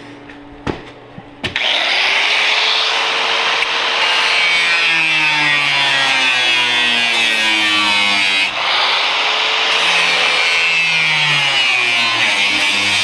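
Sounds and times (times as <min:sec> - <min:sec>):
power tool cutting sheet metal: 0:01.6 - 0:13.0.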